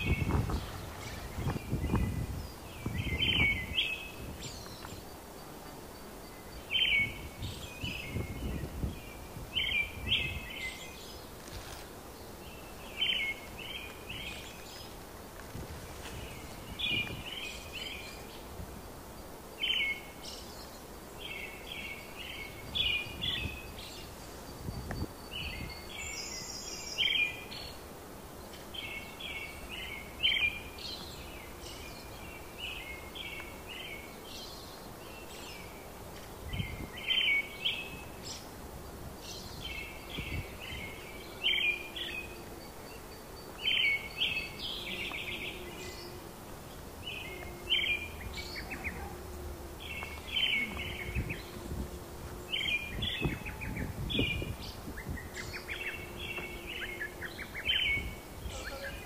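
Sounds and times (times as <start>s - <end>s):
faint outdoor background: 0.0s - 59.0s
songbird singing: 0.0s - 59.0s.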